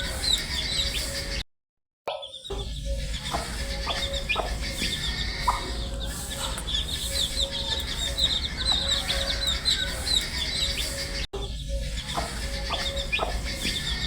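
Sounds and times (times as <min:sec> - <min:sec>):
baby chicks peeping: 0:00.0 - 0:01.4, 0:02.2 - 0:14.0.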